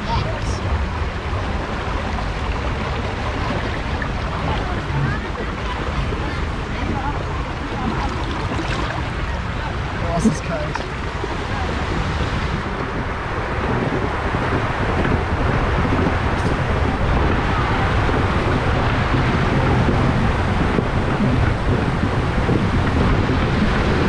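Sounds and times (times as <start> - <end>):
ride tube rumbling down slide: 0.0 - 24.0
water rushing down slide flume: 0.0 - 24.0.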